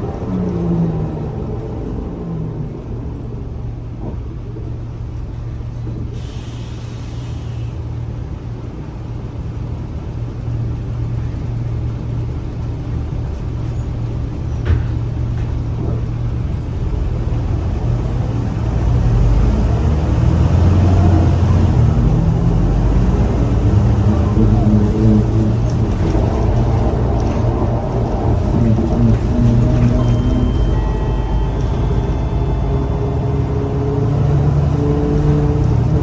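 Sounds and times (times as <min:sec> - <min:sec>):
bus engine rumbling: 0:00.0 - 0:36.0.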